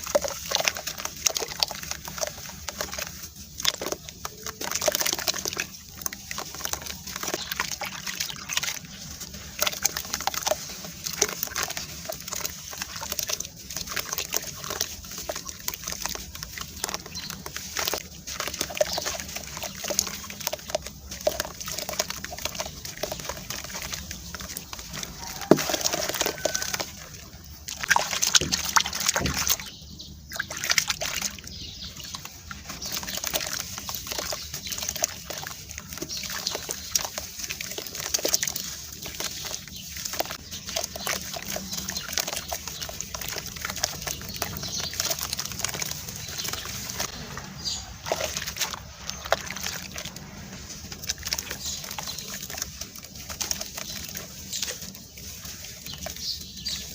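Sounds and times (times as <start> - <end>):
gritty crackle of crumbling cement: 0.0 - 30.0, 30.8 - 56.9
wet sloshing and squelching: 0.0 - 56.9.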